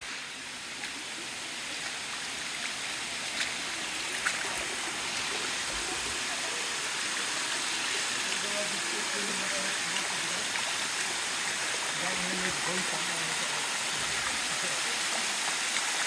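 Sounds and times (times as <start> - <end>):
water rushing over cascade: 0.0 - 16.0.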